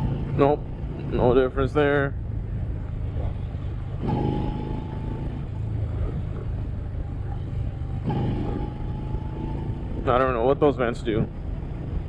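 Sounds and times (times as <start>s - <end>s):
motorcycle engine and wind rumble: 0.0s - 12.0s.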